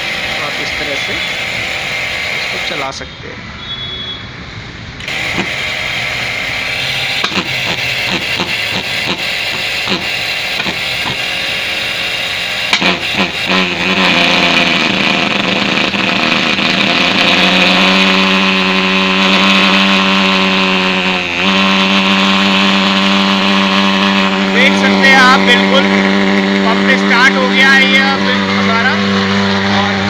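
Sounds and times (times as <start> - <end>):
pulse-jet engine drone: 0.0 - 2.9, 5.0 - 30.0
engine sputters: 0.0 - 3.0, 5.0 - 30.0
fogging machine hiss: 0.0 - 3.0, 5.0 - 30.0.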